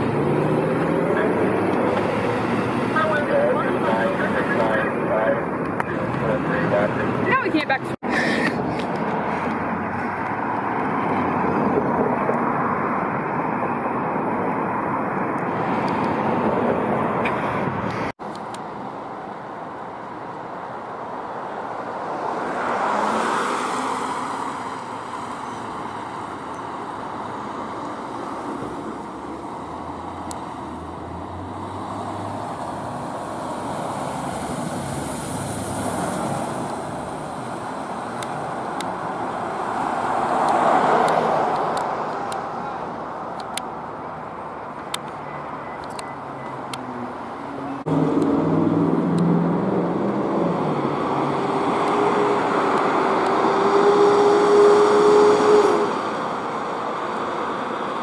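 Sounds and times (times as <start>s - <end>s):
fire engine passing: 0.0s - 17.8s, 18.7s - 44.9s, 46.3s - 58.0s
cars passing: 0.0s - 58.0s.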